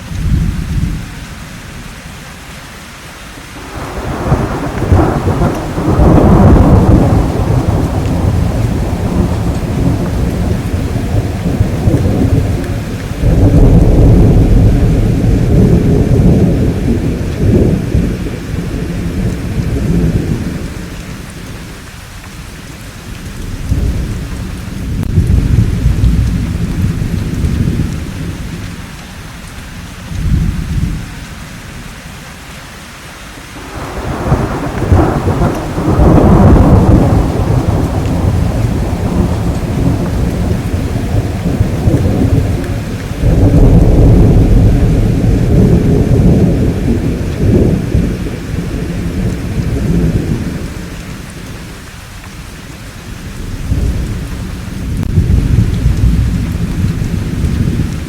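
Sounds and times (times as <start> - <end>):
steady rain: 0.0 - 58.0
rolling thunder: 3.6 - 21.7, 23.2 - 28.9, 29.7 - 31.1, 33.6 - 51.6, 53.2 - 58.0.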